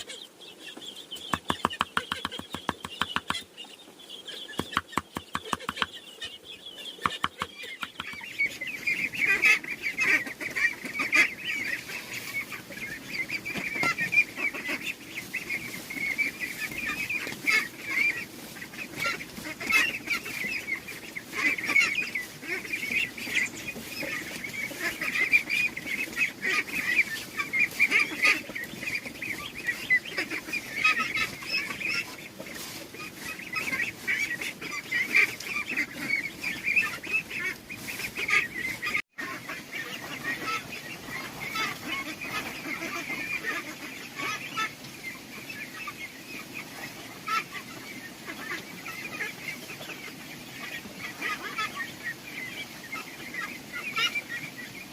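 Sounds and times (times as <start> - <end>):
poultry calling: 0.0 - 3.6, 4.2 - 54.5.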